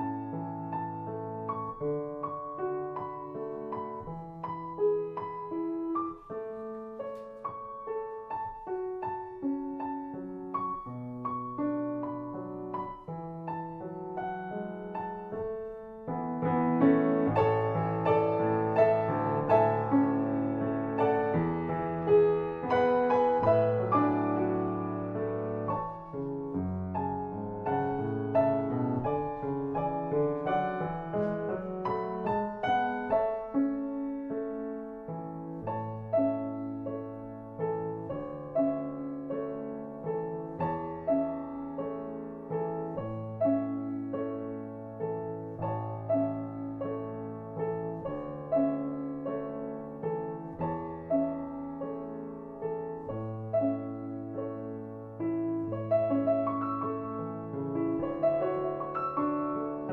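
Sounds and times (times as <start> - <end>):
slow piano music: 0.0 - 59.9.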